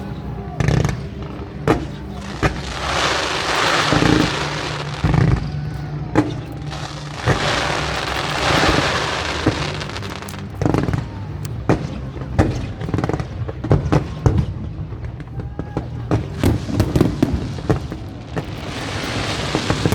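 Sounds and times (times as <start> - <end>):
fireworks bangs: 0.0 - 19.9
fireworks crackling: 0.0 - 19.9.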